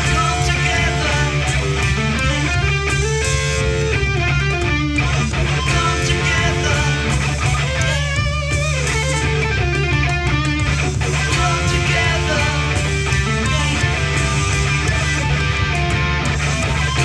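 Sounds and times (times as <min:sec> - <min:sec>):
electric guitar lead lines: 0:00.0 - 0:17.0.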